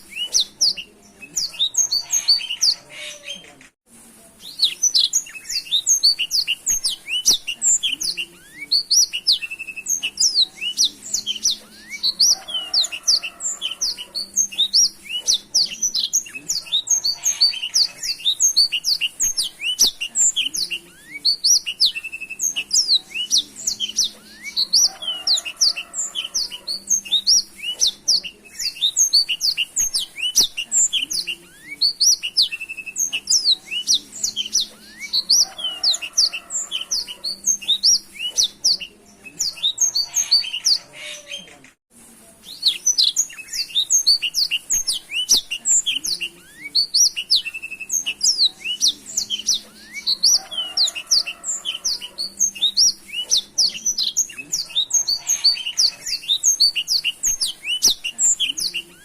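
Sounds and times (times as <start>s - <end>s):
canary singing: 0.0s - 3.8s, 4.4s - 41.8s, 42.4s - 59.0s.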